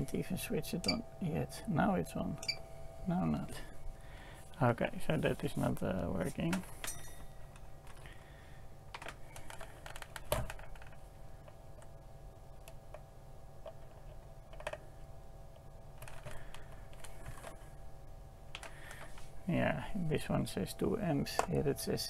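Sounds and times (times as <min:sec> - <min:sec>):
bench equipment hum: 0:00.0 - 0:22.0.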